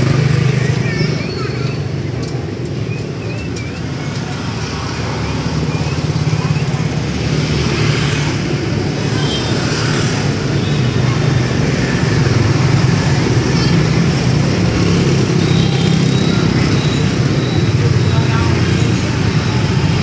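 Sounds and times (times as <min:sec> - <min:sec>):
motorbike and car engines: 0:00.0 - 0:20.0.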